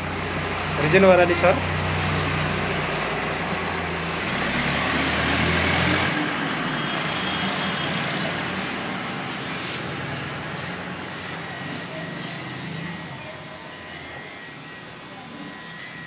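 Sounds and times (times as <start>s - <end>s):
electric hair clippers buzzing: 1.6s - 16.0s.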